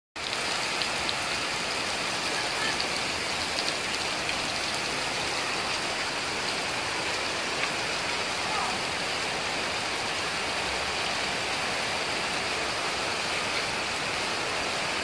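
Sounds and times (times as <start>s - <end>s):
heavy rain hiss: 0.2s - 15.0s
water streaming off eaves: 0.2s - 15.0s.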